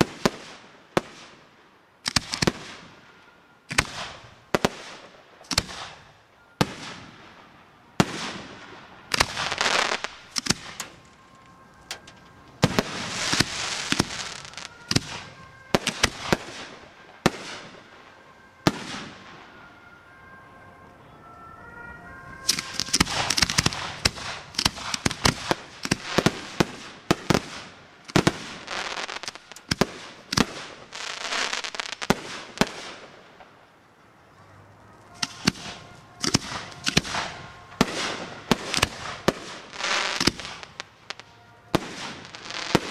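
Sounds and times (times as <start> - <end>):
firework crackling: 0.0 - 42.9.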